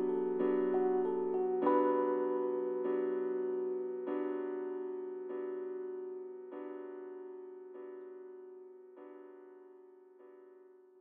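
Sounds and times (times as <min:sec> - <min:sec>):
soft keyboard chord: 0:00.0 - 0:11.0.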